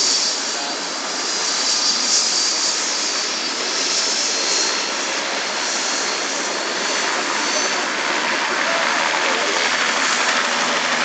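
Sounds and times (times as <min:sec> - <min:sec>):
jet engines roaring with high whine: 0:00.0 - 0:11.0.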